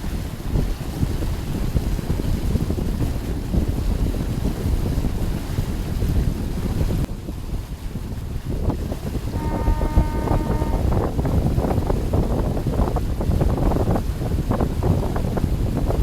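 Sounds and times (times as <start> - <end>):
water rushing past boat: 0.0 - 16.0
wind buffeting microphone: 0.0 - 16.0.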